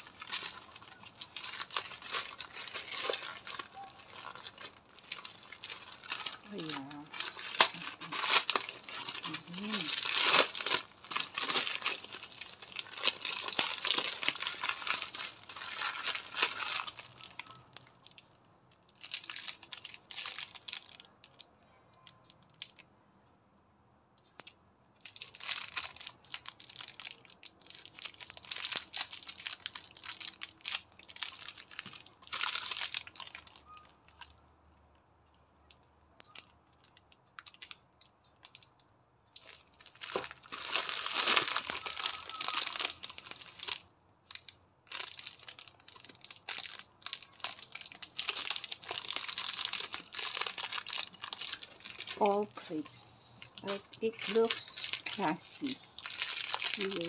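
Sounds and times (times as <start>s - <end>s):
plastic wrapping crinkling: 0.0s - 22.8s, 24.3s - 34.4s, 35.2s - 57.0s.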